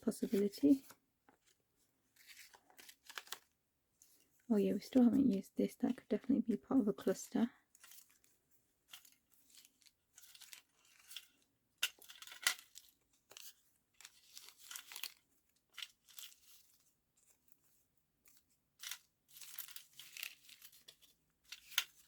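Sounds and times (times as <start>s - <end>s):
paper rustling and crinkling: 0.0s - 5.4s, 7.2s - 22.0s.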